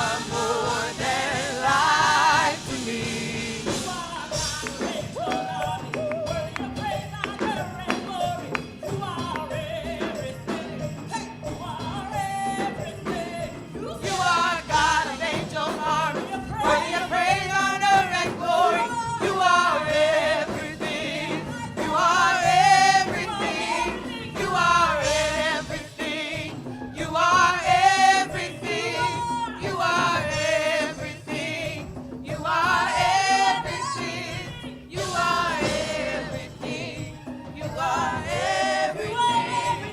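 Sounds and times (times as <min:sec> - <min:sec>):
instrumental backing: 0:00.0 - 0:39.9
person singing with vibrato: 0:00.0 - 0:39.9.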